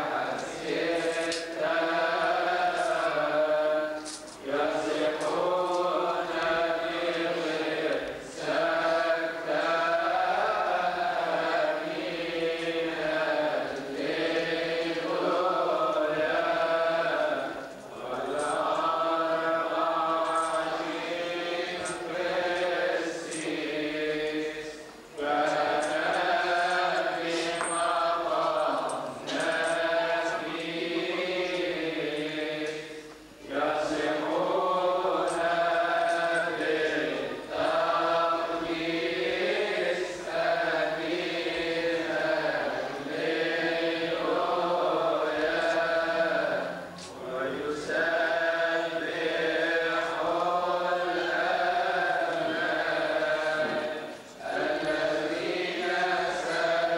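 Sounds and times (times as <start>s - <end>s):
voices chanting a hymn: 0.0s - 56.9s.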